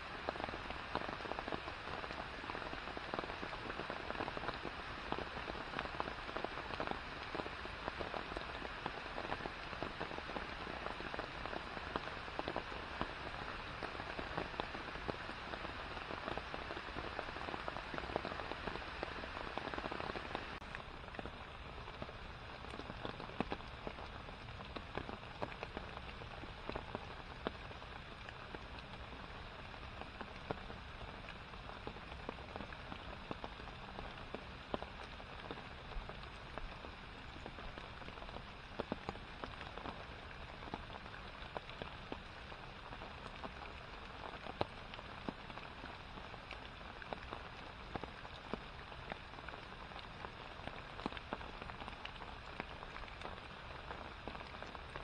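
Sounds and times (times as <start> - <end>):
rain falling on pond and leaves: 0.0 - 55.0.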